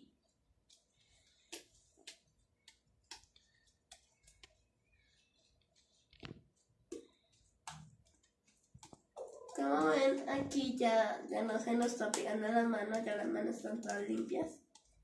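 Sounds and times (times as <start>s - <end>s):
slime kneaded with sticky pops: 0.0s - 15.0s.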